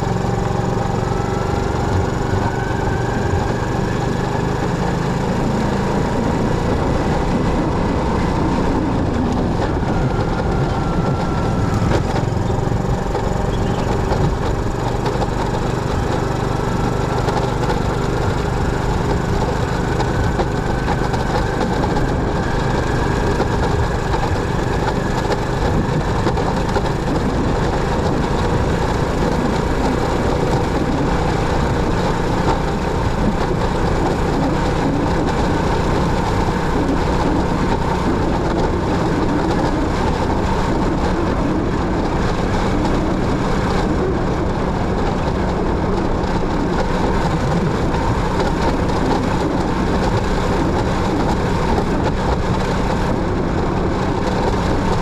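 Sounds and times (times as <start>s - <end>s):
motorcycle engine running: 0.0s - 55.0s
road noise: 0.0s - 55.0s
wind noise: 0.0s - 55.0s.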